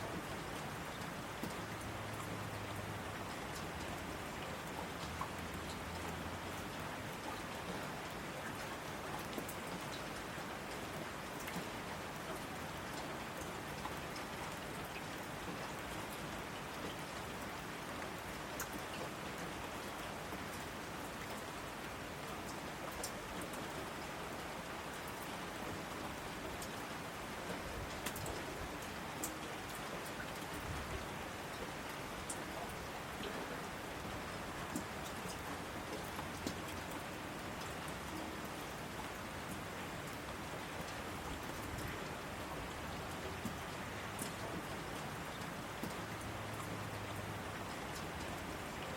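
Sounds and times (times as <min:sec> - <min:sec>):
rainfall: 0:00.0 - 0:48.9.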